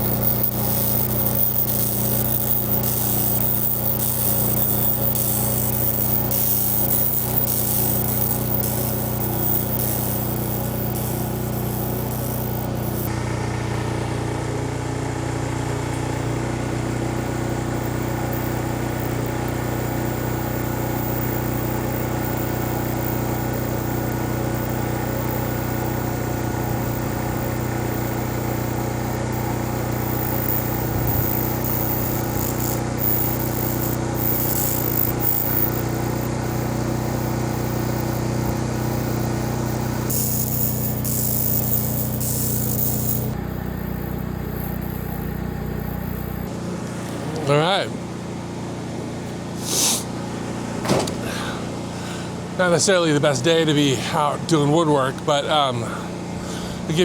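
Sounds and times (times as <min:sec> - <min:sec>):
laser cleaning machine humming: 0:00.0 - 0:49.0.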